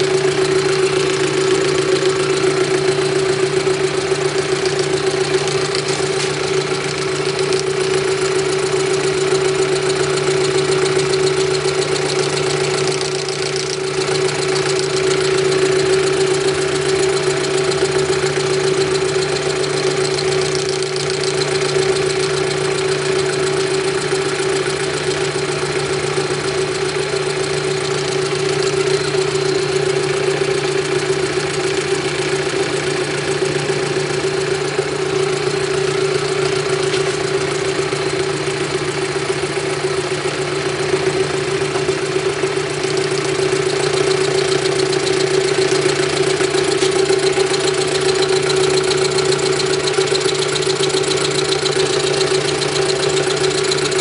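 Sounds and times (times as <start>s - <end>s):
lathe motor hum and whine: 0.0s - 54.0s.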